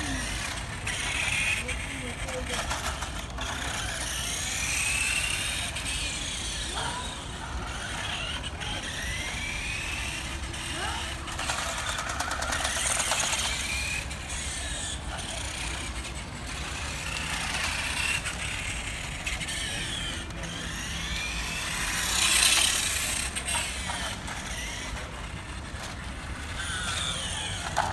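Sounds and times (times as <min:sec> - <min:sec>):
toy motorcycle electric motor whining: 0:00.0 - 0:27.9.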